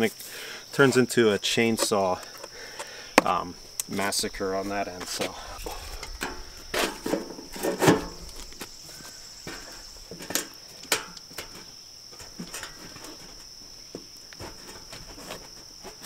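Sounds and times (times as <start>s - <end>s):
crickets buzzing: 0.0s - 16.0s.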